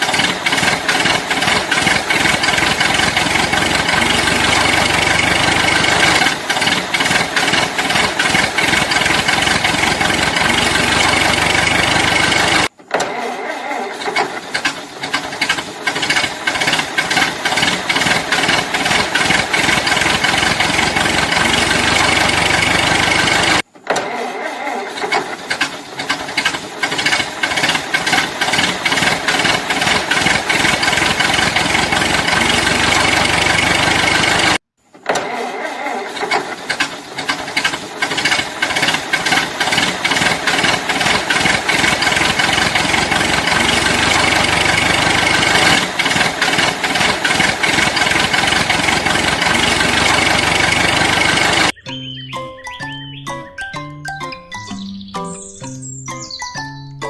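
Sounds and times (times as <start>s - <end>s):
small engine knocking rattle: 0.0s - 51.8s.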